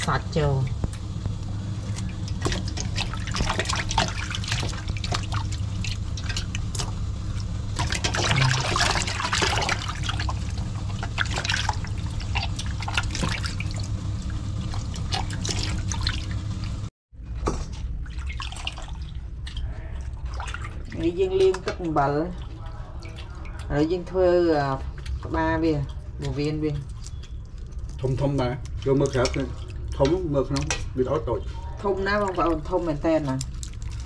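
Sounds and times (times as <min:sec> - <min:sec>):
low hum: 0:00.0 - 0:34.0
water dripping and trickling: 0:00.1 - 0:16.9, 0:17.9 - 0:34.0
water sloshing in a metal bowl: 0:01.6 - 0:16.7, 0:17.7 - 0:34.0
water pouring: 0:01.6 - 0:16.9, 0:17.9 - 0:26.0, 0:27.0 - 0:30.8, 0:32.0 - 0:34.0.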